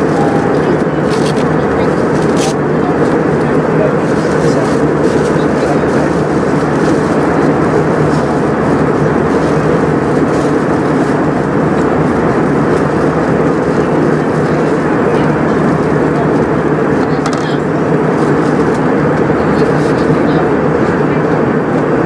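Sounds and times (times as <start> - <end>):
aircraft cabin engine and airflow roar: 0.0 - 22.0.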